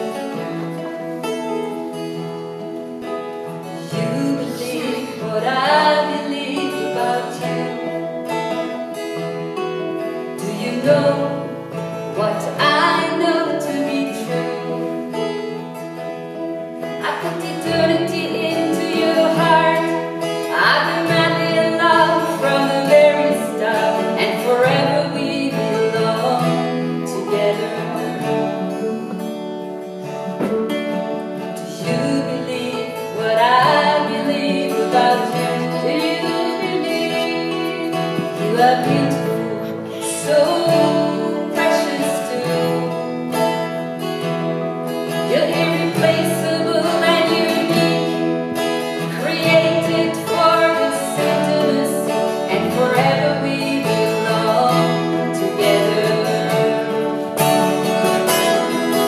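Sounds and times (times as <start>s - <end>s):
acoustic guitars playing: 0.0s - 59.0s
person singing: 3.6s - 9.0s, 9.8s - 15.5s, 16.8s - 29.6s, 31.3s - 44.3s, 45.2s - 59.0s.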